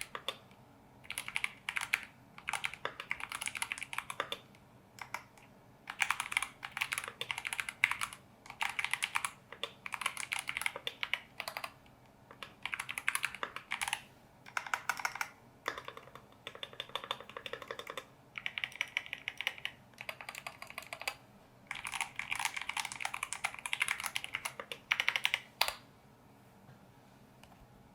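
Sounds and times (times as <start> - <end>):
mechanical keyboard typing: 0.0 - 25.8.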